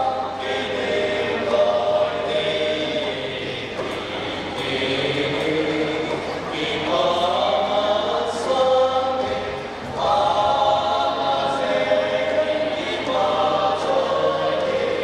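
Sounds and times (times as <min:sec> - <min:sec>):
male vocal group singing in harmony: 0:00.0 - 0:15.0.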